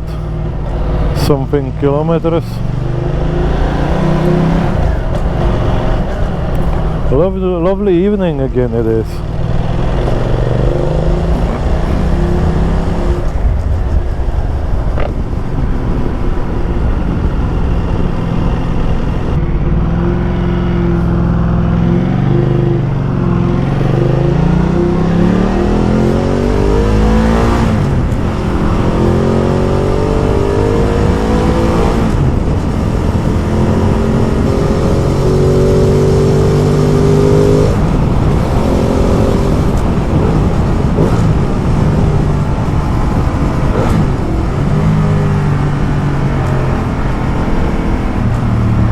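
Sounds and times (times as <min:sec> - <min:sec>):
motorcycle engine revving: 0:00.0 - 0:48.9
wind and road noise: 0:00.0 - 0:48.9.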